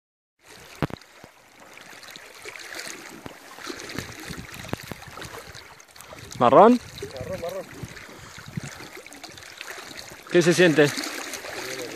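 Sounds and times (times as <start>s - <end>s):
river water splashing and lapping: 0.4s - 11.9s.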